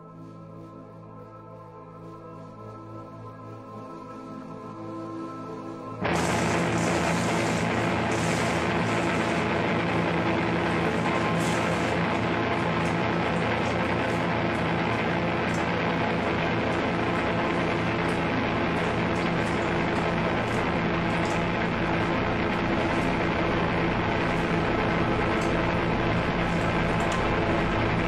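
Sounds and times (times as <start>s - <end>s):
droning doom metal music: 4.3s - 28.0s.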